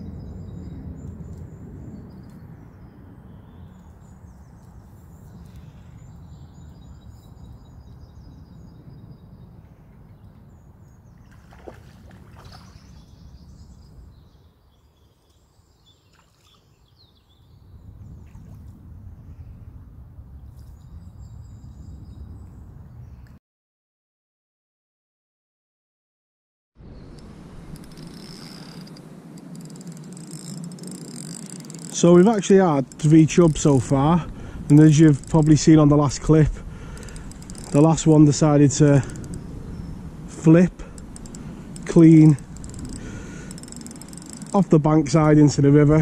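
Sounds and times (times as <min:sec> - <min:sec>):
songbirds chirping and trilling: 0:00.0 - 0:19.7, 0:20.3 - 0:23.4, 0:26.8 - 0:46.0.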